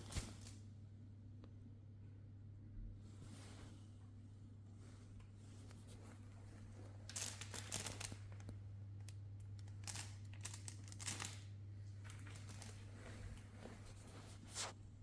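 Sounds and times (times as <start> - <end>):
rustling and crinkling: 0.0 - 0.6, 3.1 - 15.0.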